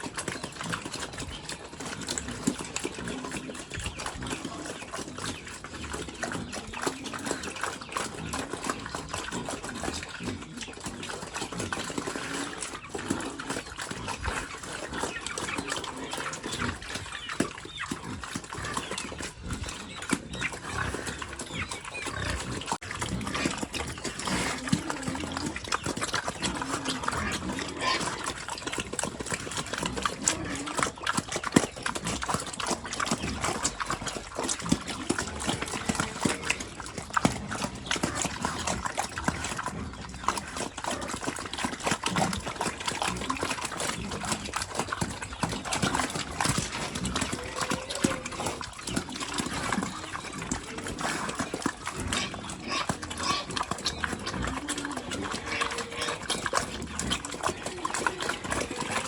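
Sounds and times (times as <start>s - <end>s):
pigs chomping and slurping: 0.0s - 59.0s.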